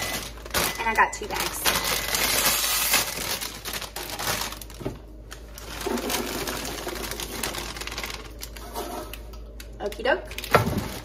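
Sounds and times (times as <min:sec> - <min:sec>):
snack bag crinkling: 0:00.0 - 0:11.0.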